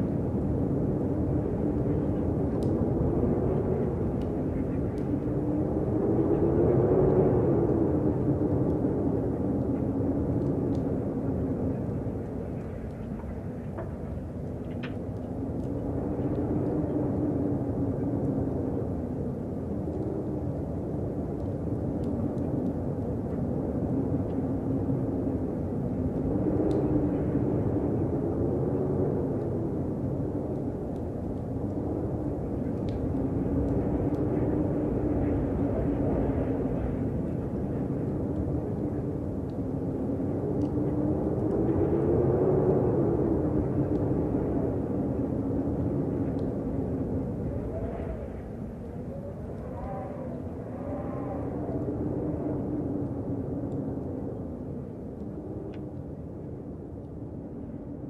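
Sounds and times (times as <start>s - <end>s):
wind blowing and howling: 0.0s - 58.0s.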